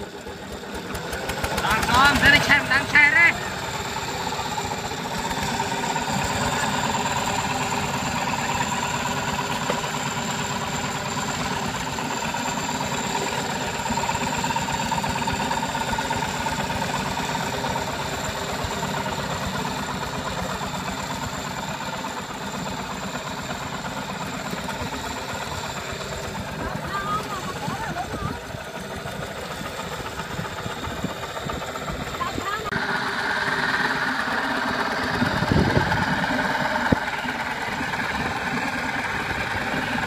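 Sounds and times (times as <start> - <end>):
diesel engine chugging: 0.0 - 40.0.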